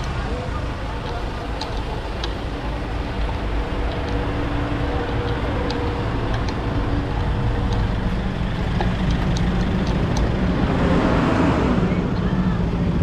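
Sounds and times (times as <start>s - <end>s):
motorcycle engine rumble: 0.0s - 13.0s
rush of noise: 0.0s - 13.0s.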